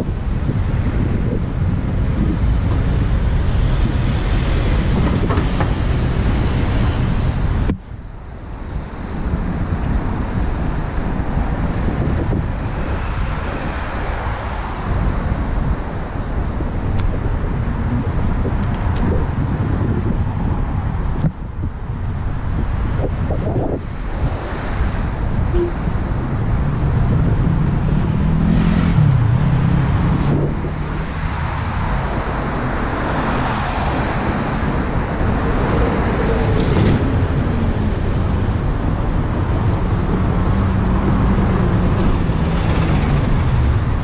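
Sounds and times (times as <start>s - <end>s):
tyre and wind rush: 0.0s - 44.0s
vehicle engines passing: 0.0s - 44.0s.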